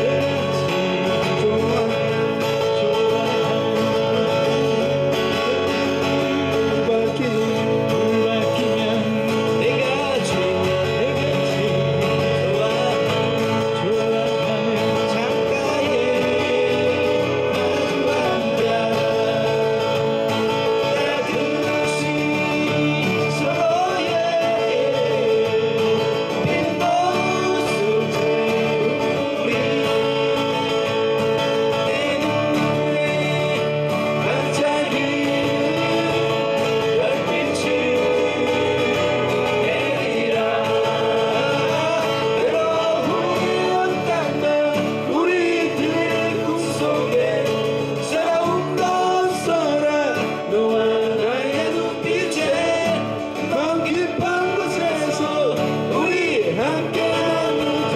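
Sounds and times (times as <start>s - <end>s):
acoustic guitars playing: 0.0s - 57.9s
men singing: 0.0s - 57.9s.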